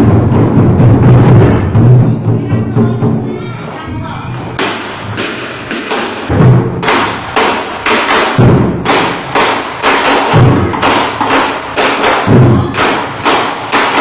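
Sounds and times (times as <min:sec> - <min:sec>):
wooden barrel drums beaten: 0:00.0 - 0:14.0.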